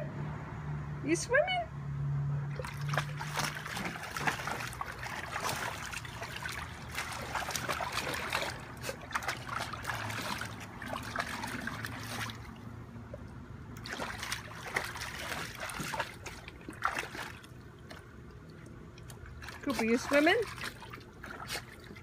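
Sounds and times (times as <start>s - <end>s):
dog splashing in water: 2.5s - 12.7s, 13.8s - 22.0s.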